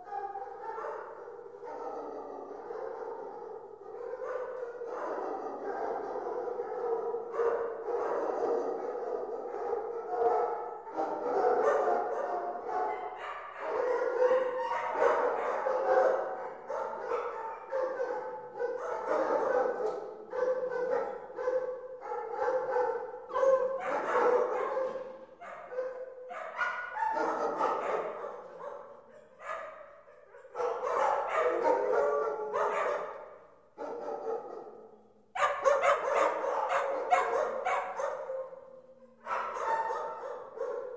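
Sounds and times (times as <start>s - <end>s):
dogs barking and whining: 0.0s - 40.9s.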